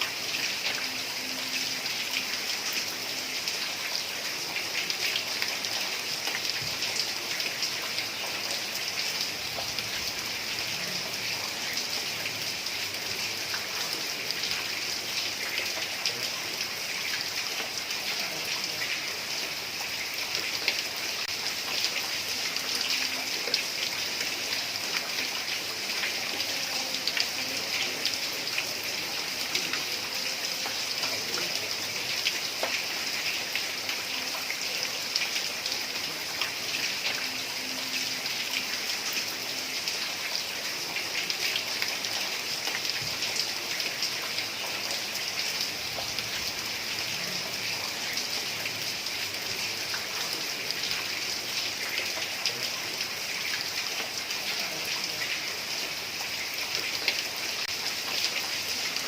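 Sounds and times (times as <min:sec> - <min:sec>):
heavy rain on a tile roof: 0:00.0 - 0:59.0.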